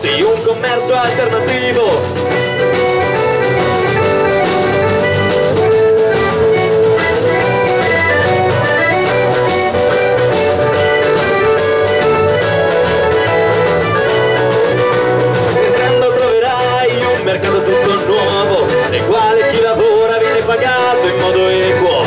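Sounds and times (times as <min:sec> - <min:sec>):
accordion melody: 0:00.0 - 0:22.0
guitar accompaniment: 0:00.0 - 0:22.0.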